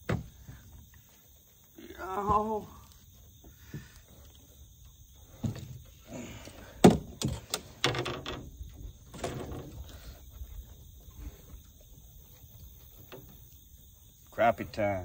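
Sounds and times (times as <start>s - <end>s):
knocks and rattles in canoe: 2.1s - 15.0s.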